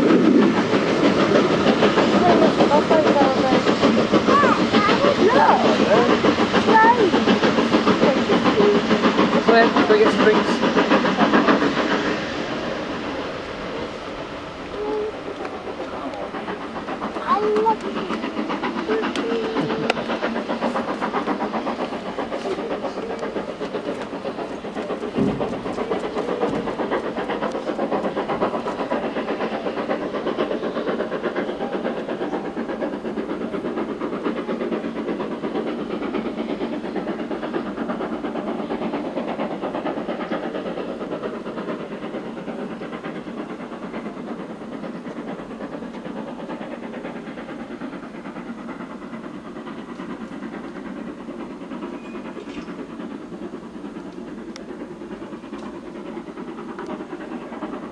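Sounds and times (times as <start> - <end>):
steam locomotive exhaust: 0.0 - 57.9
train wheels clattering over rail joints: 0.0 - 57.9.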